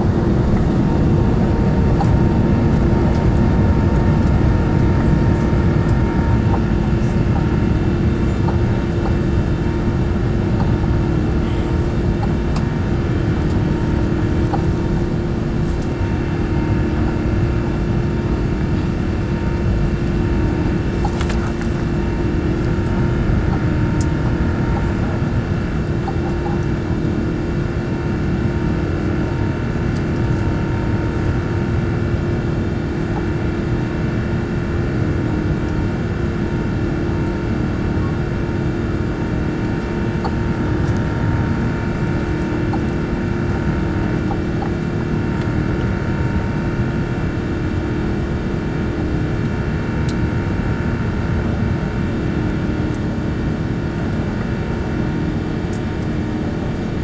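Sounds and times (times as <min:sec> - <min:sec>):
droning fan tones: 0:00.0 - 0:57.0
jet engines roaring: 0:00.0 - 0:57.0.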